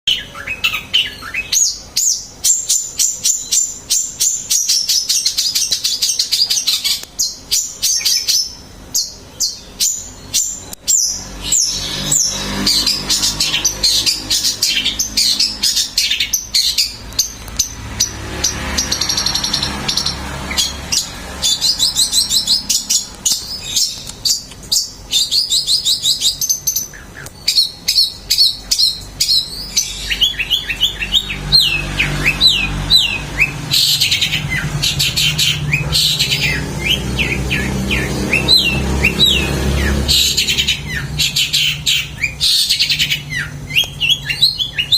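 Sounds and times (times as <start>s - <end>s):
bird singing chirps and trills: 0.1s - 44.9s.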